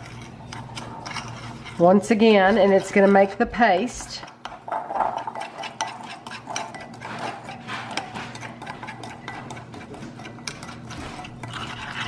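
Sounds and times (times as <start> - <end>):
spoon scraping glass bowl: 0.0 - 12.0.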